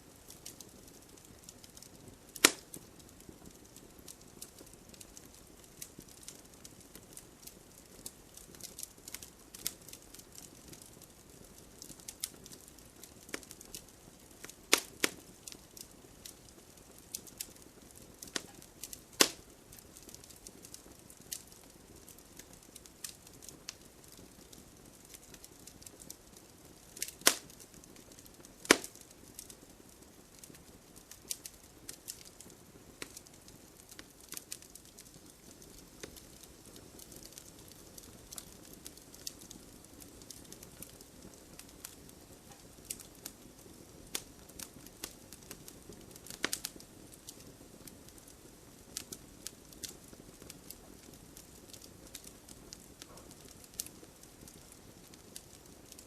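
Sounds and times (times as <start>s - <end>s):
fire crackling and popping: 0.0s - 56.0s
low rustle of flames: 0.0s - 56.0s.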